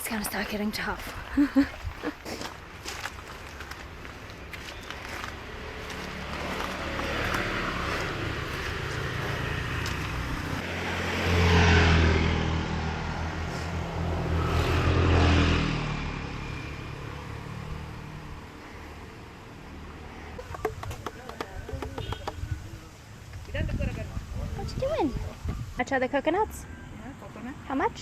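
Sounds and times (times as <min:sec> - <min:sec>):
motor vehicles passing: 0:00.0 - 0:28.0.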